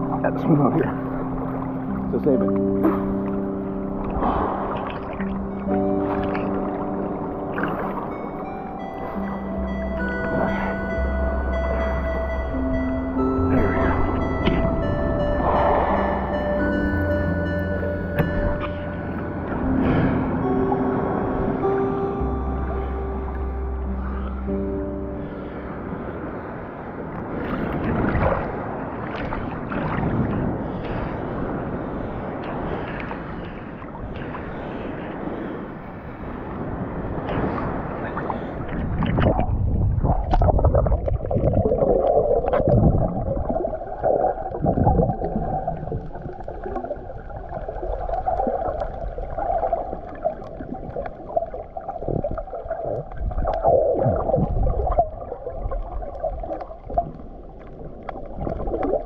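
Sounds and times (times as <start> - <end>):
water sloshing and splashing: 0.0 - 20.5, 26.4 - 59.0
underwater gurgling: 0.0 - 34.8, 36.0 - 59.0
low underwater rumbles: 0.0 - 35.2, 36.0 - 59.0.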